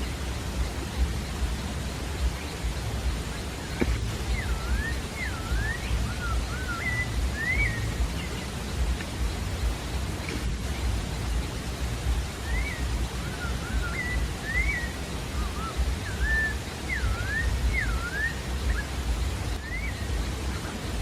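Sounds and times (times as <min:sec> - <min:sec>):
low background rumble: 0:00.0 - 0:21.0
thrush singing whistled phrases: 0:02.2 - 0:10.2, 0:12.1 - 0:21.0.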